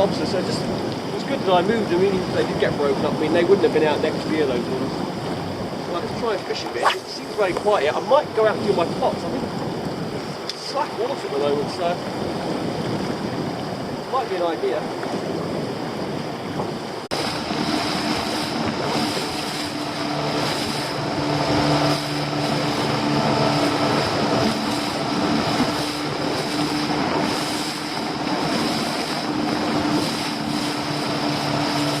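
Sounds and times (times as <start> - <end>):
boat engine running: 0.0 - 32.0
water rushing: 0.0 - 32.0
wind: 0.0 - 32.0.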